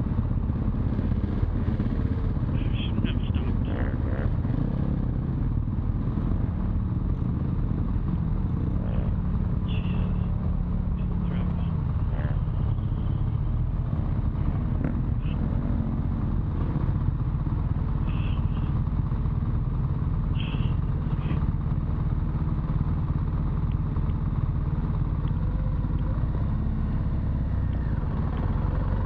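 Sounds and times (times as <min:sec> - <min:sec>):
motorcycle engine low rumble: 0:00.0 - 0:29.0.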